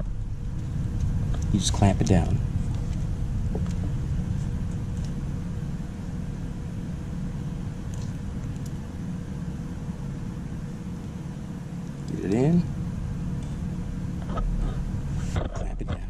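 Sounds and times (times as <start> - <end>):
low mechanical rumble and hum: 0.0 - 16.0.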